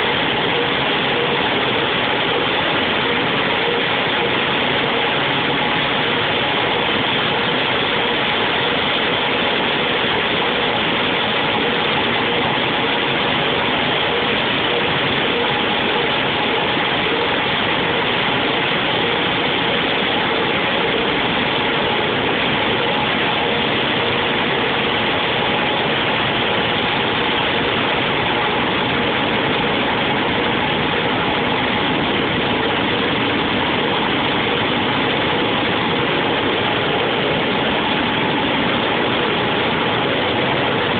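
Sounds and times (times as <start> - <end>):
loud machine noise: 0.0 - 40.9.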